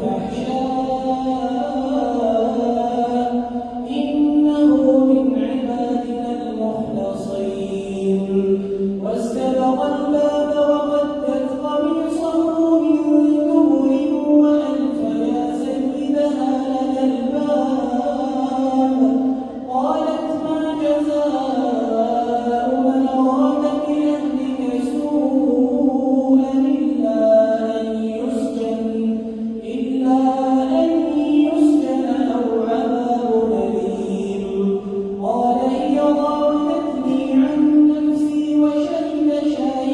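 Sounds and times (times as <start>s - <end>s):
man chanting recitation: 0.0s - 39.9s.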